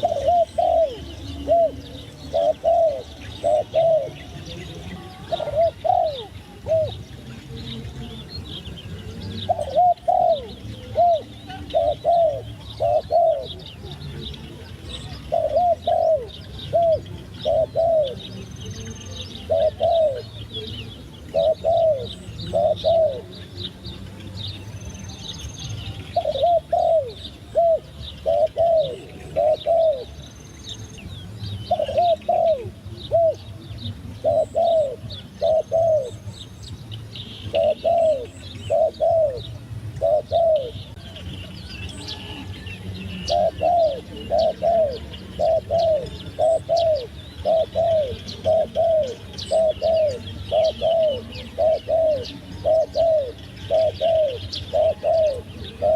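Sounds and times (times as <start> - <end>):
dove cooing: 0.0 - 36.7, 37.4 - 41.2, 41.8 - 55.9
small birds chirping: 0.0 - 55.9.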